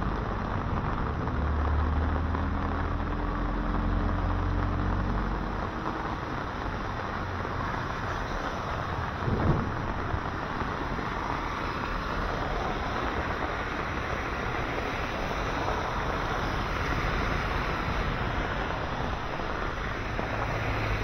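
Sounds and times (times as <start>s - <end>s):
cars and motorcycles passing: 0.0s - 21.0s
falling rain: 0.0s - 21.0s
tyres hissing on wet road: 0.0s - 21.0s
vehicle passing close rumble: 0.0s - 21.0s.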